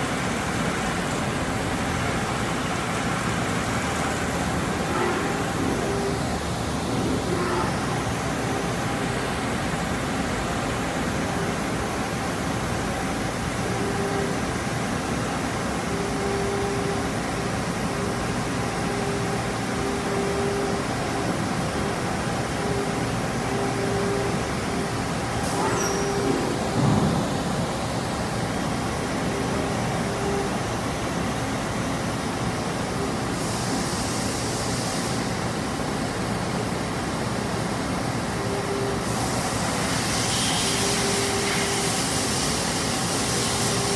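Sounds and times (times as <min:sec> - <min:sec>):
lathe running with coolant spray: 0:00.0 - 0:43.9.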